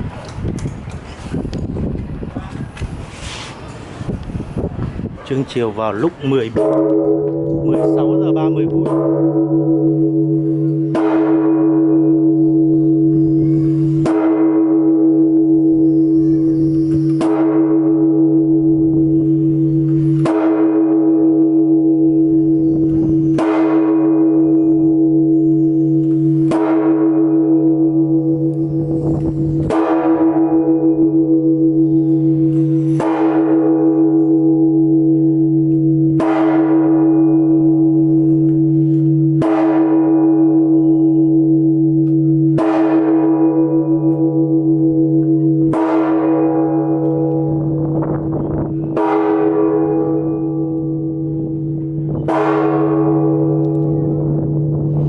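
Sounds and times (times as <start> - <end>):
church bell tolling: 5.3 - 55.0.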